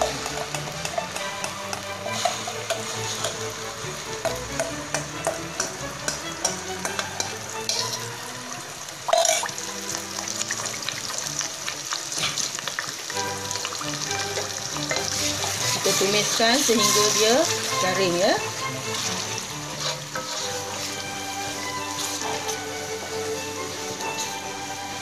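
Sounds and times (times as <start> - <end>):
paste sizzling in hot oil: 0.0 - 25.0.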